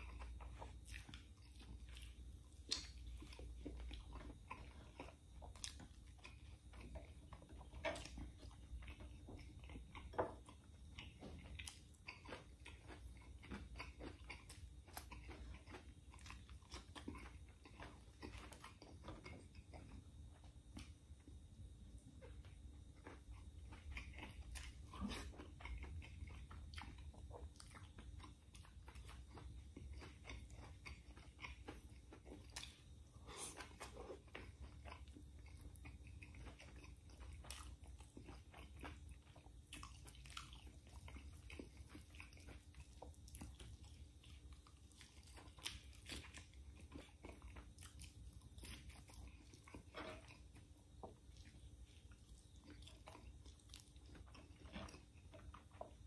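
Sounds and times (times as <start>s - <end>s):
man chewing and mouth smacks: 0.0s - 56.0s.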